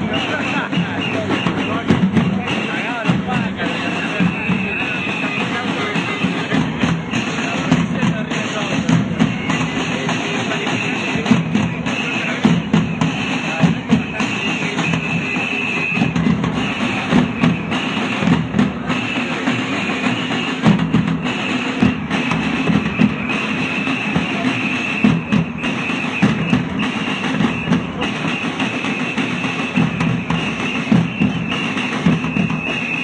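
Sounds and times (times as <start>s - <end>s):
loud music with drums: 0.0s - 33.0s.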